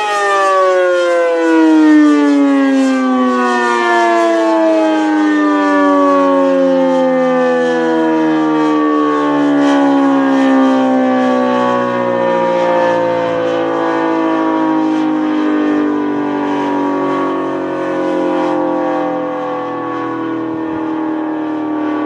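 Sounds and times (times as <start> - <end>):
siren wail falling in pitch: 0.0 - 22.0.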